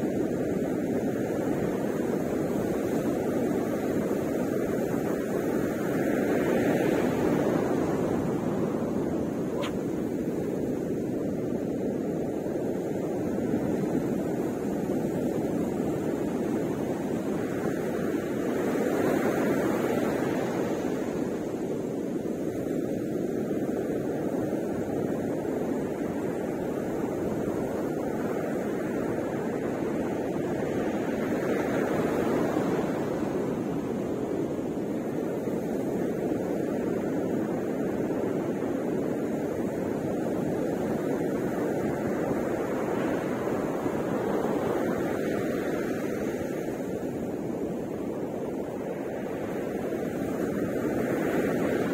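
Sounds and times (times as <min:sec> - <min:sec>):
ocean surf breaking on beach: 0:00.0 - 0:51.9.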